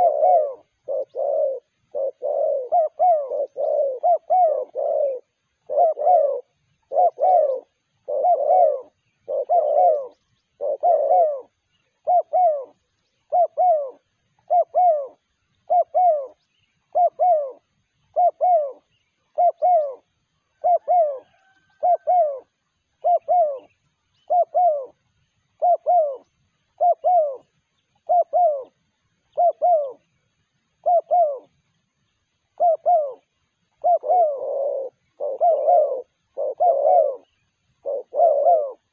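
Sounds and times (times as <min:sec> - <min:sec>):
dove cooing: 0:00.0 - 0:31.7, 0:32.4 - 0:38.9.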